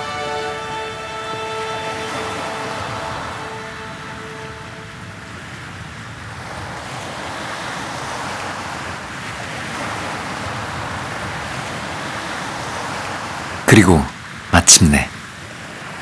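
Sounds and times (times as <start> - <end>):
small waves washing on beach: 0.0 - 14.5, 15.1 - 16.0.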